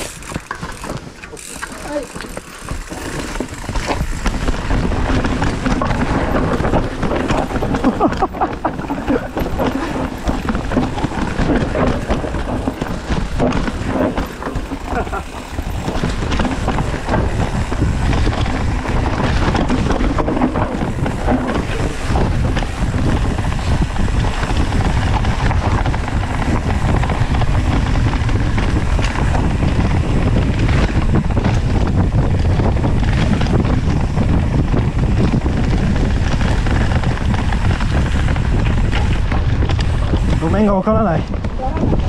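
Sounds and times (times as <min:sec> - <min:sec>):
bike knocking over bumps: 0:00.0 - 0:42.0
mountain bike rumbling and rattling: 0:00.0 - 0:42.0
wind on microphone: 0:00.0 - 0:42.0.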